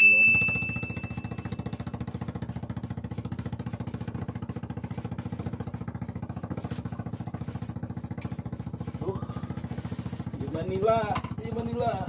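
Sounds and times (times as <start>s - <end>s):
small boat engine chugging: 0.0s - 12.0s.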